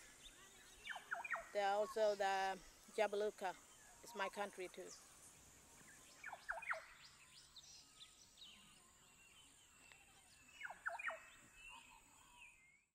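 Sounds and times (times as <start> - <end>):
faint bird chirps: 0.0 - 12.9.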